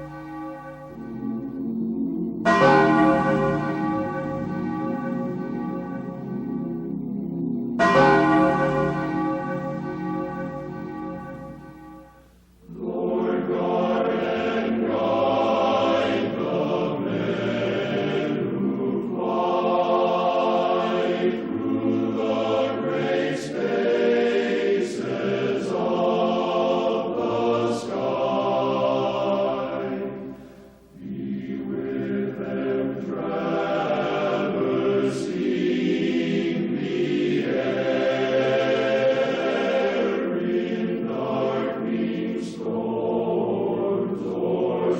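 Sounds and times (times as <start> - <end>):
choir singing held chords: 0.0 - 44.9.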